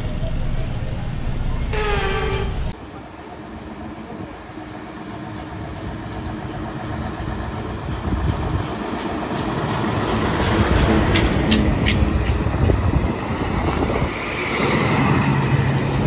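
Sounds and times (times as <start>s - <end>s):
diesel engines of truck and bus: 0.0s - 16.0s.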